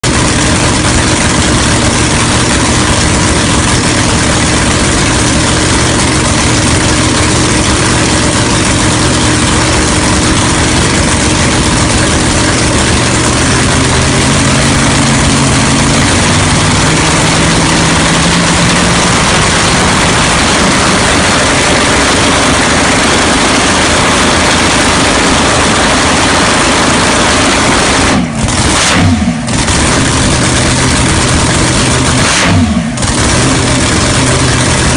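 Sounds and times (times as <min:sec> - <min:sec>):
dragster engine revving: 0:00.0 - 0:34.9.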